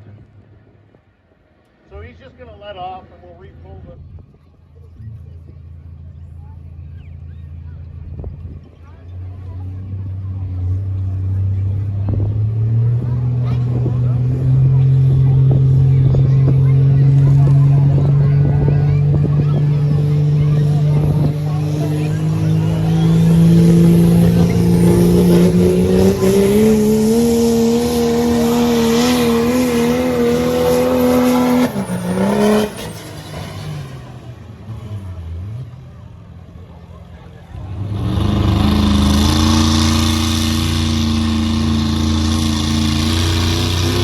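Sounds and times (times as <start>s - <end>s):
diesel truck engine under load: 4.0s - 44.0s.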